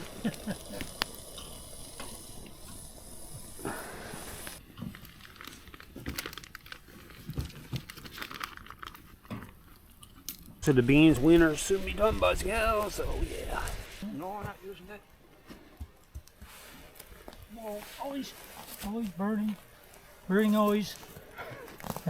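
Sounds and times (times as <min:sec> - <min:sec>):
kettle hissing on campfire: 0:00.0 - 0:06.6, 0:09.2 - 0:15.2, 0:16.0 - 0:22.0.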